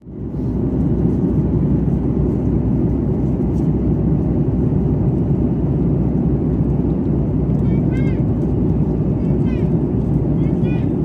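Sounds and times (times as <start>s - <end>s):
jet airliner rumble in flight: 0.0s - 11.0s.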